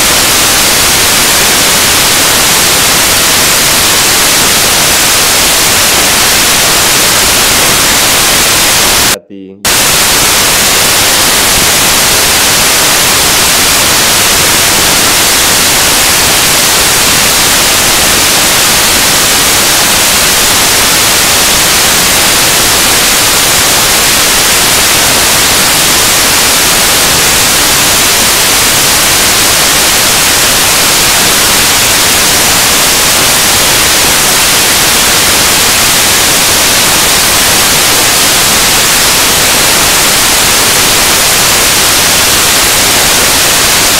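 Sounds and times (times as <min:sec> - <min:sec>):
loud static hiss: 0:00.0 - 0:43.9.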